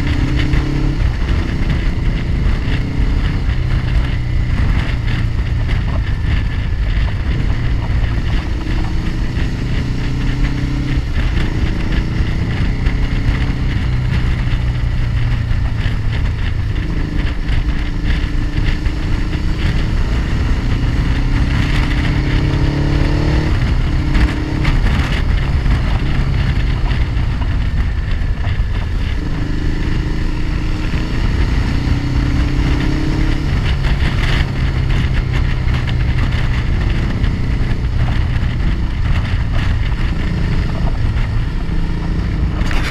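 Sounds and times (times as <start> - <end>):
motorcycle engine accelerating: 0.0 - 42.9
wind and road noise: 0.0 - 42.9.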